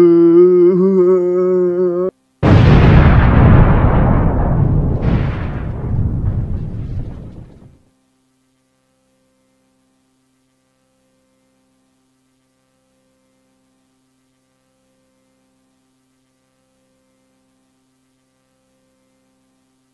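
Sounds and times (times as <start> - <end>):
faint electrical hum: 0.0 - 19.9.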